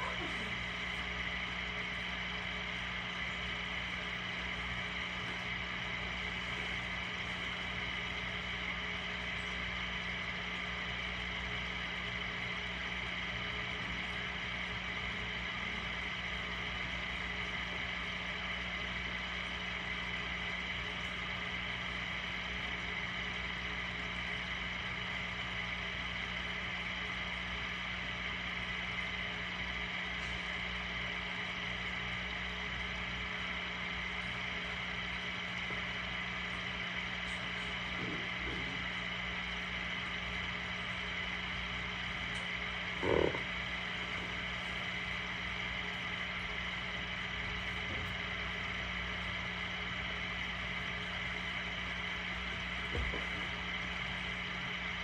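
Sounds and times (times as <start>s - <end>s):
small motor humming: 0.0s - 55.0s.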